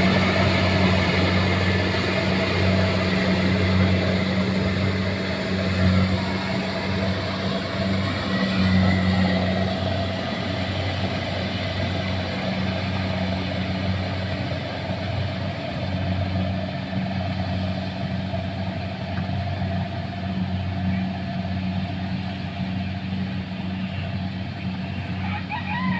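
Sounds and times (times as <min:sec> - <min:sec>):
combine harvester engine humming: 0:00.0 - 0:25.9.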